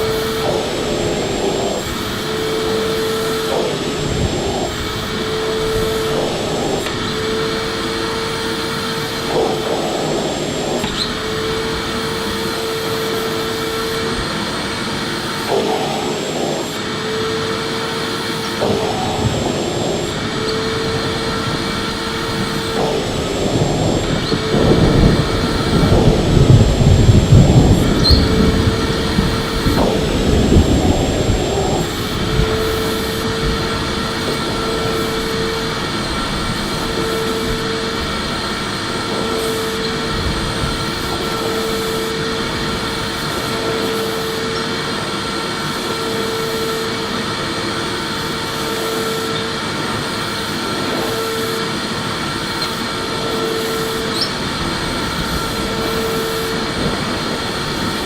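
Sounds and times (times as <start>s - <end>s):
vacuum cleaner whirring: 0.0s - 58.0s.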